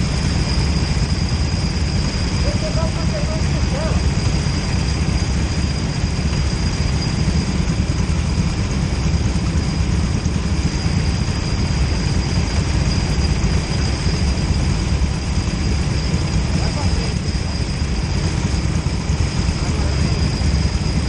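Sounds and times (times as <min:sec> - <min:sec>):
faint high whine: 0:00.0 - 0:21.0
go-kart engine idling: 0:00.0 - 0:21.0.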